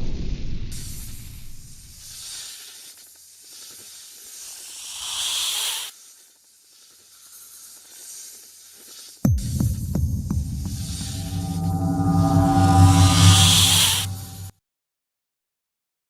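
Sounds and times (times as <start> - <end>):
hissing noise: 0.8 - 14.5.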